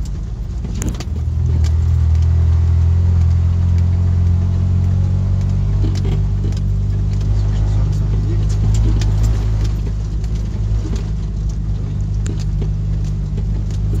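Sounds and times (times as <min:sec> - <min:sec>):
car body rattling over bumps: 0:00.0 - 0:14.0
car engine running: 0:00.0 - 0:14.0.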